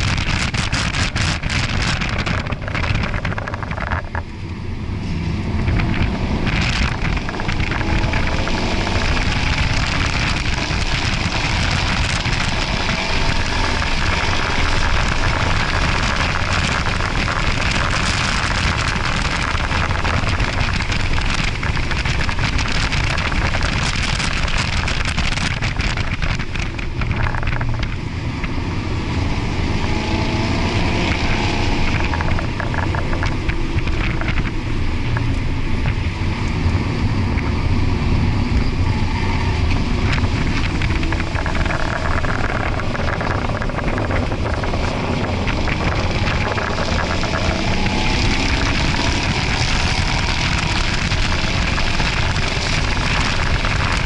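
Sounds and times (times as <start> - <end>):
car engine under hard driving: 0.0 - 54.0
road and wind noise: 0.0 - 54.0.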